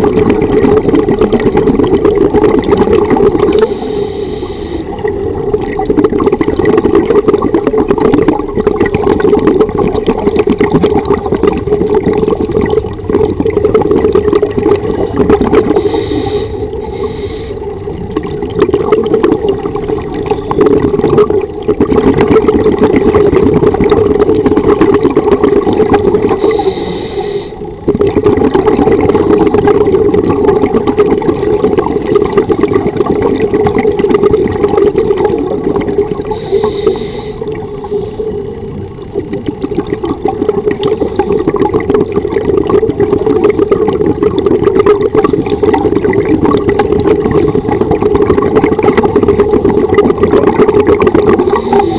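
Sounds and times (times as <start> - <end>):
underwater regulator bubbles: 0.0 - 51.9.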